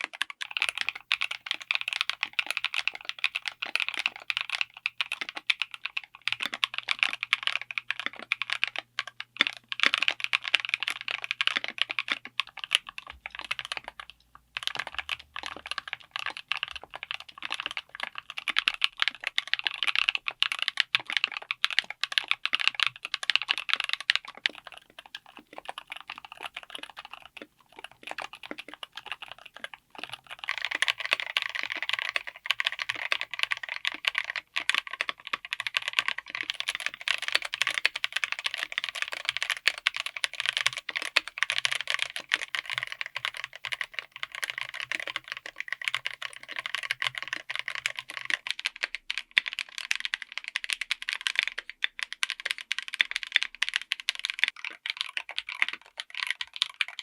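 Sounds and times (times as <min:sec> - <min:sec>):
typing on mechanical keyboard: 0:00.0 - 0:57.0.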